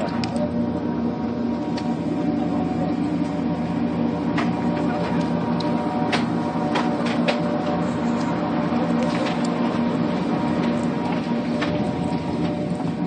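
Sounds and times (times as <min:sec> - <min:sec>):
lift machinery humming: 0:00.0 - 0:13.0.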